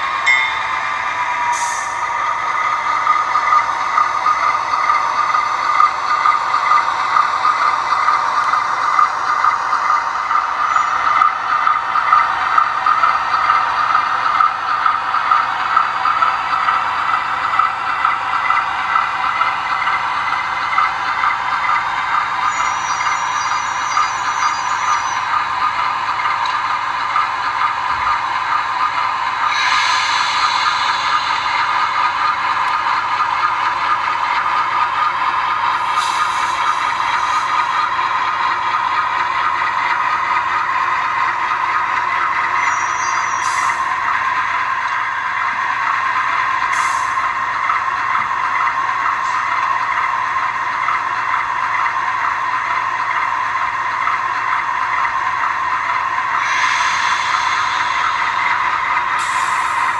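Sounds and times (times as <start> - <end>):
diesel engine sound from small speaker: 0.0 - 59.9.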